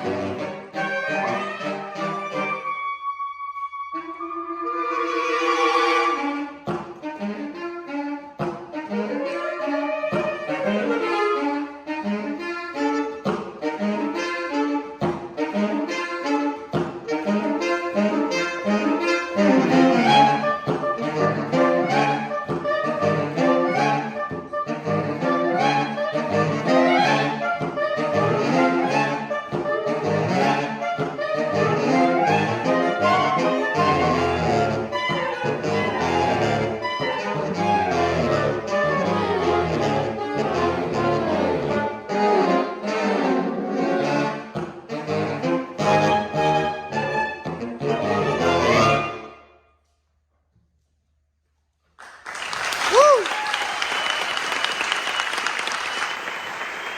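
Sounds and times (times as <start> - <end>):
deep baritone saxophone notes: 0.0 - 49.3
saxophone quartet playing fast: 0.0 - 49.4, 52.2 - 56.9.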